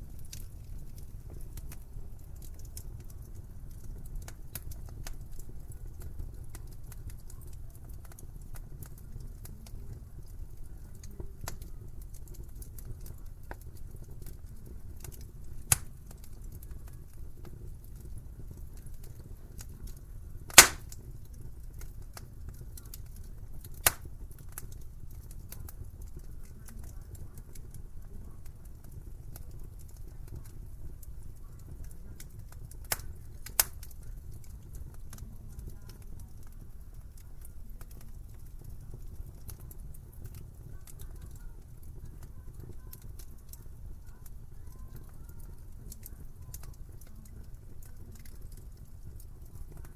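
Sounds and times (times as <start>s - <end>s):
burning wood popping: 0.0s - 49.9s
fire crackling in a fireplace: 0.0s - 49.9s.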